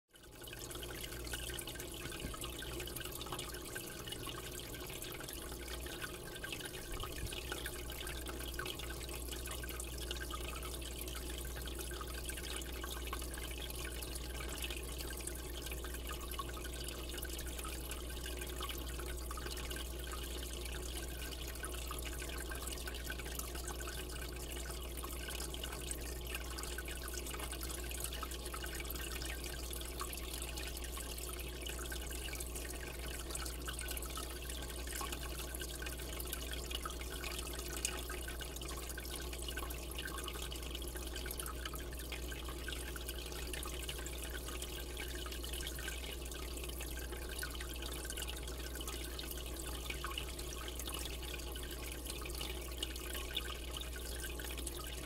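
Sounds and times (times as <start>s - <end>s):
aquarium water trickling: 0.1s - 55.0s
low steady hum: 0.2s - 55.0s.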